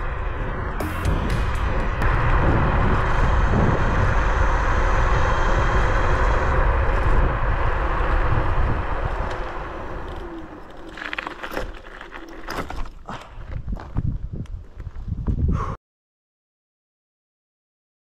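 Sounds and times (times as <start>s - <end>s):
scooter tyre noise: 0.0s - 14.9s
wind rushing over microphone: 0.0s - 15.8s.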